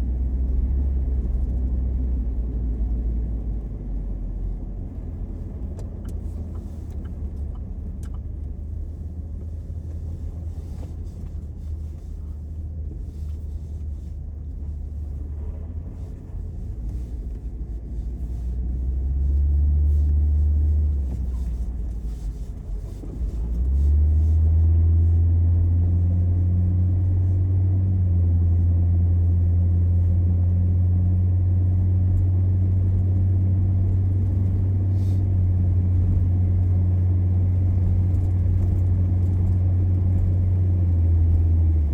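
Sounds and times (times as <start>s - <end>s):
car engine and tyres rumbling: 0.0s - 41.9s.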